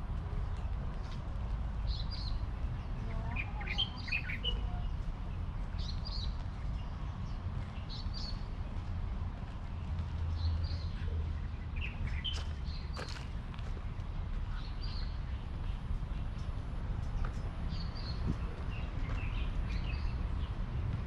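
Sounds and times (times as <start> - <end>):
birds chirping: 1.8 - 20.8.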